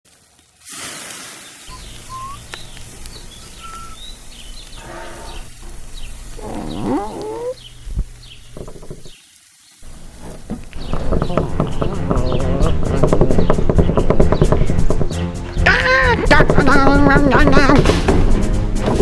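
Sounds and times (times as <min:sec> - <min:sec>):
birds chirping: 0:01.4 - 0:17.8.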